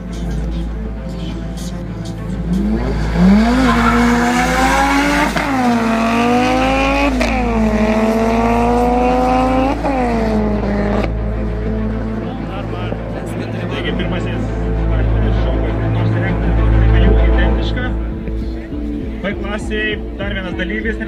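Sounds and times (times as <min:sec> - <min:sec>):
cars accelerating and shifting: 0:00.0 - 0:19.5.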